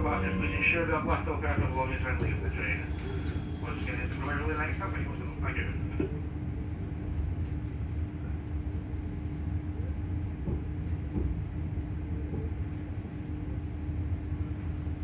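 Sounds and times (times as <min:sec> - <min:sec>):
electric train humming: 0:00.0 - 0:14.6.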